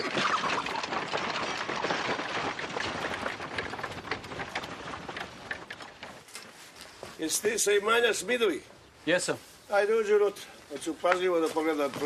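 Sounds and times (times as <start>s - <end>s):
horse hooves clopping: 0.0s - 8.8s, 10.6s - 12.0s
wagon wheels crunching on gravel: 0.0s - 12.0s.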